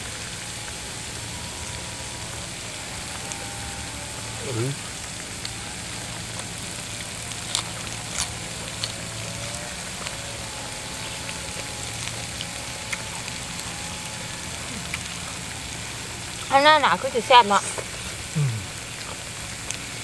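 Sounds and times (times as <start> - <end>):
pan sizzling on charcoal stove: 0.0 - 20.0.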